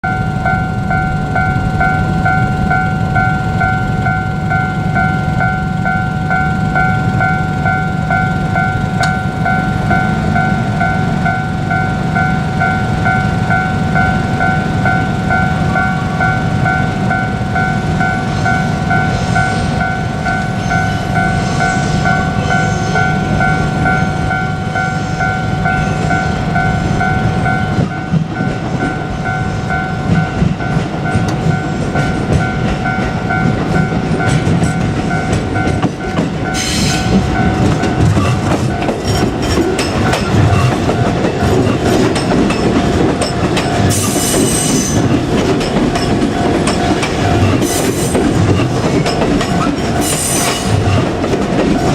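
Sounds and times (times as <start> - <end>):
level crossing bell ringing: 0.0 - 51.9
passing train rumble: 0.0 - 51.9.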